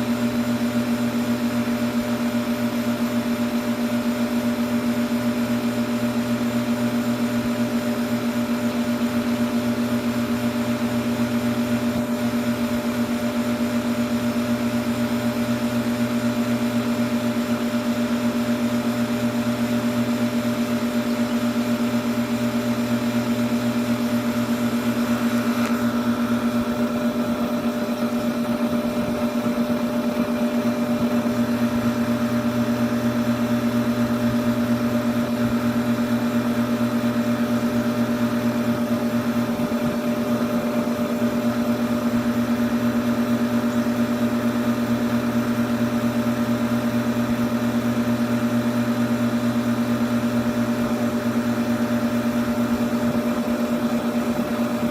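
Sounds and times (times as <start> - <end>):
air-conditioning compressor humming: 0.0 - 54.9.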